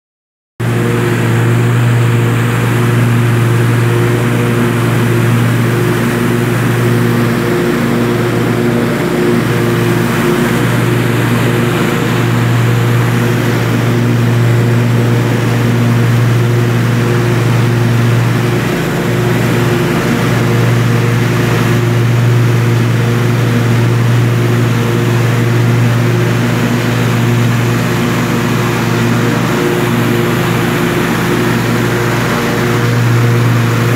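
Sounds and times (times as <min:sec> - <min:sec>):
mower engine droning: 0:00.6 - 0:33.9.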